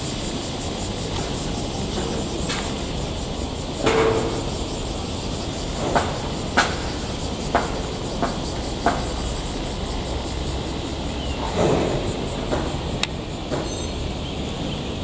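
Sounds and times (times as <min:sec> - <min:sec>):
locomotive rumbling past: 0:00.0 - 0:15.0
wheels clanking: 0:00.0 - 0:15.0.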